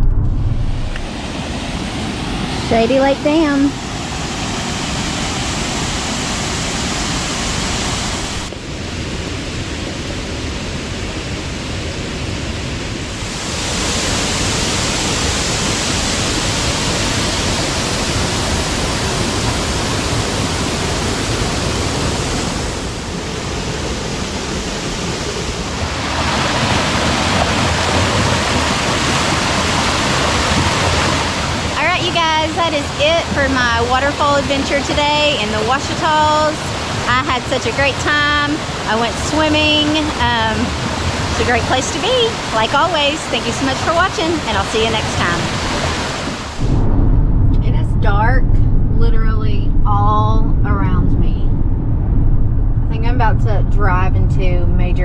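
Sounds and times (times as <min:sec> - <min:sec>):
water rushing over spillway: 0:00.9 - 0:46.7.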